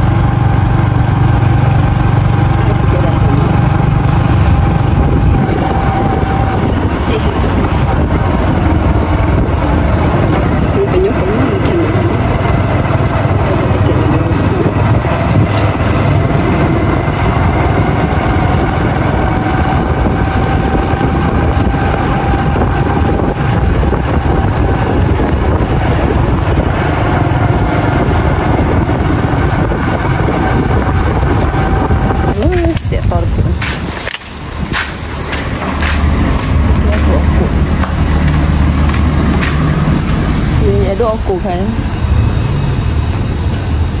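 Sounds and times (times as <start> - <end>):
motorbike engine running: 0.0 - 44.0
rushing wind noise: 0.0 - 44.0.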